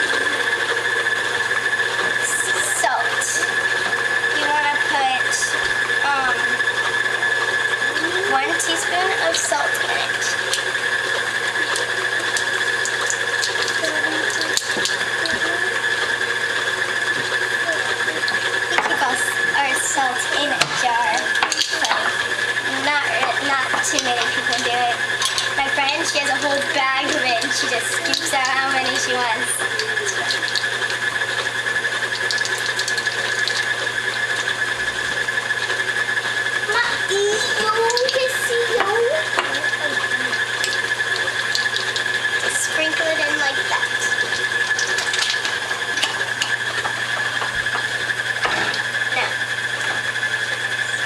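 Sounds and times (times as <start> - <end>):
stand mixer whining: 0.0 - 51.0.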